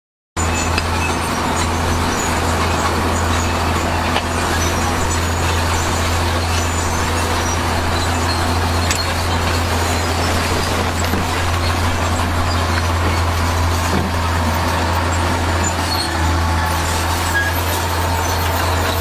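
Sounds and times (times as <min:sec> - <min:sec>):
diesel machinery engine drone: 0:00.4 - 0:19.0.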